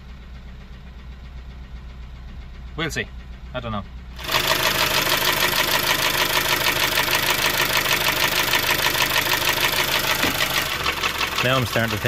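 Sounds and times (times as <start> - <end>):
car engine idling: 0.0 - 12.0
rapid engine knocking: 0.1 - 12.0.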